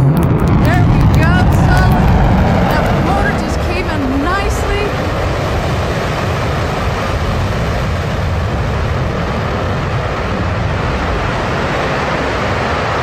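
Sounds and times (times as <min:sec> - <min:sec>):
rocket engine rumble: 0:00.0 - 0:13.0.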